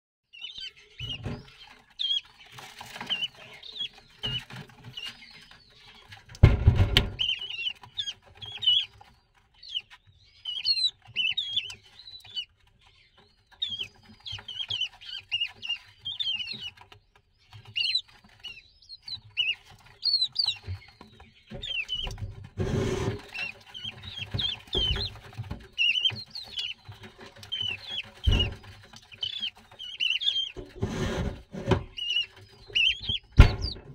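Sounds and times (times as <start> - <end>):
chicks high peeping calls: 0.3 - 33.9.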